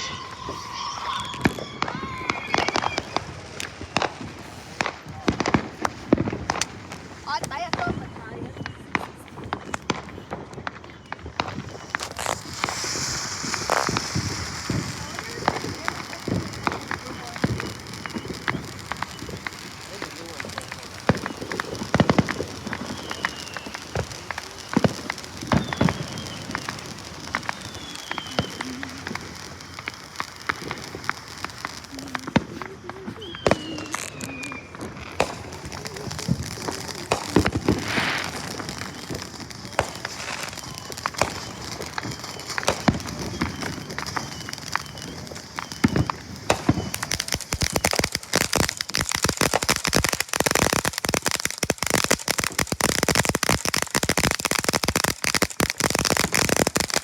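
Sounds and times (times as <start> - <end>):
falling firework whistles: 0.0 - 57.0
fireworks crackling: 0.0 - 57.0
fireworks popping and banging: 0.0 - 57.0.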